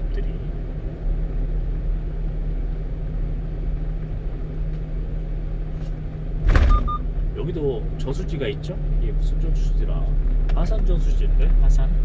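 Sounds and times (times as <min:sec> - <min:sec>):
truck engine drone: 0:00.0 - 0:11.4.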